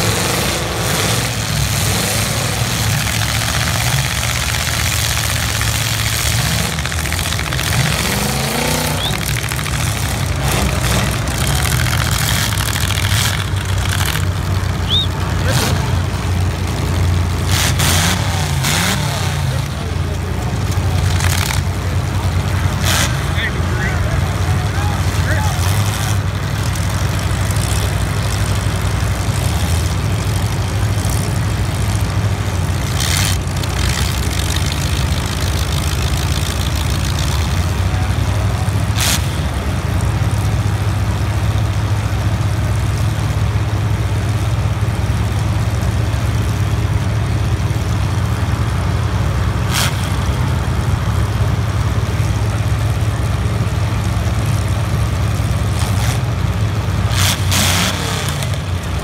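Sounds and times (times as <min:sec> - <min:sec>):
car engines droning: 0:00.0 - 0:59.0.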